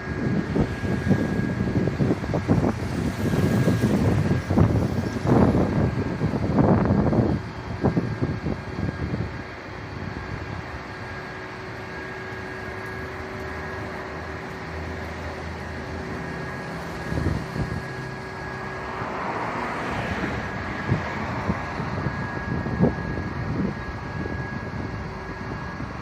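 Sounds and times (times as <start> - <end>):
vehicle engine running: 0.0 - 23.2
rushing noise: 0.0 - 24.6.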